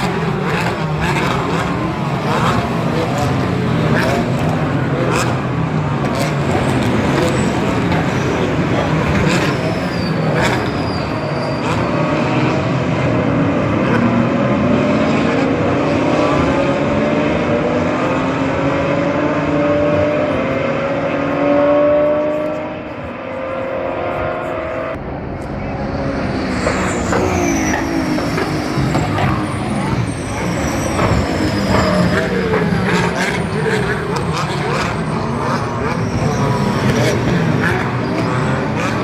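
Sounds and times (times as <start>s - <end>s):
car engine accelerating: 0.0s - 39.0s
race car engines: 0.0s - 39.0s.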